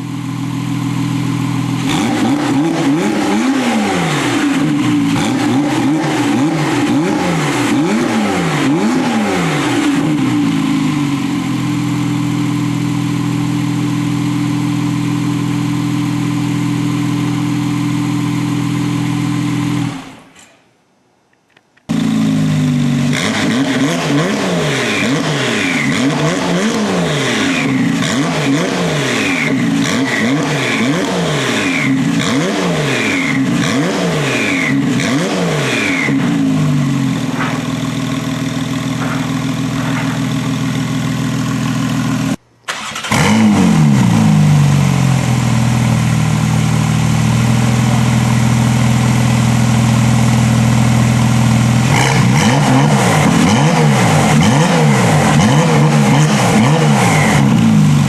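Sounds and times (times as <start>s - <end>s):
car engine revving: 1.3s - 20.1s, 21.9s - 58.0s.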